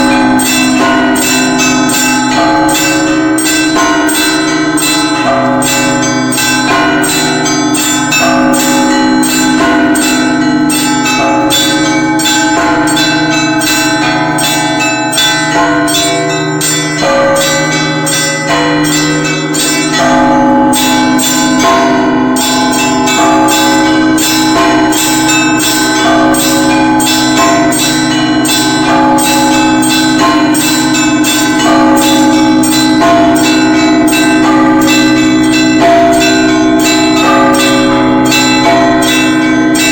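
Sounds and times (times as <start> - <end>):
low hum of large bells: 0.0 - 39.9
small church bells ringing fast: 0.0 - 39.9.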